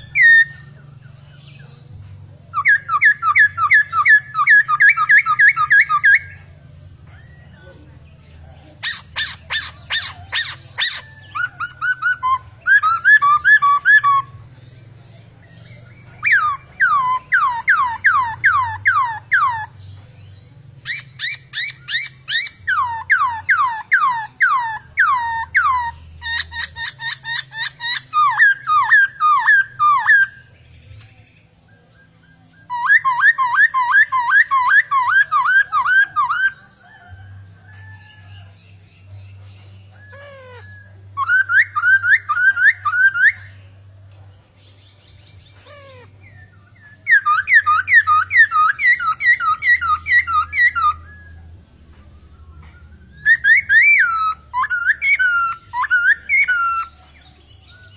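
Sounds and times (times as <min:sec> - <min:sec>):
bird whistled song: 0:00.0 - 0:57.9.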